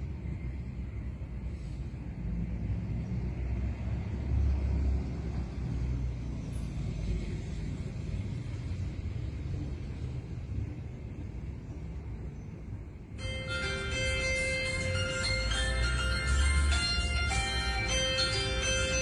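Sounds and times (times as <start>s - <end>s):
low rumble of street ambience: 0.0s - 19.0s.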